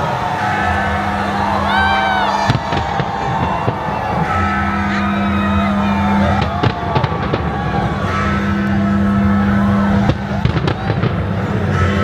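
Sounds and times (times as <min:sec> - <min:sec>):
crowd voices: 0:00.0 - 0:12.0
fireworks bangs: 0:00.0 - 0:12.0.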